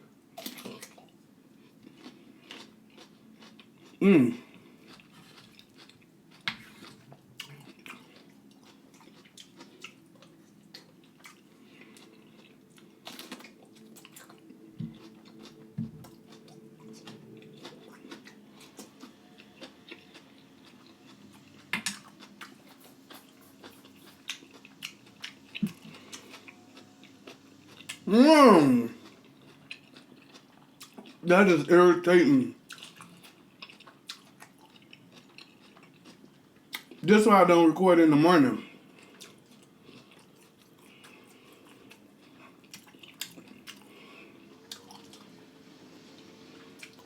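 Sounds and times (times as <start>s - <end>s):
person chewing food: 0.4s - 37.0s, 38.6s - 47.0s.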